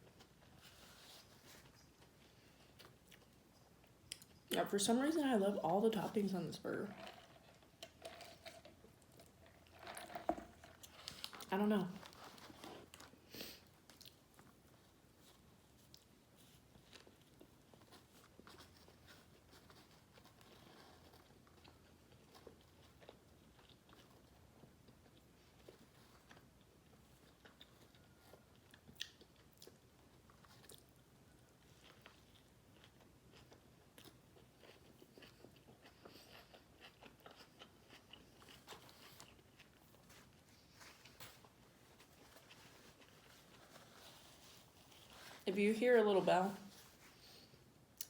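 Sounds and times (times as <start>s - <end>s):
person chewing food: 0.0s - 4.5s, 6.9s - 45.4s.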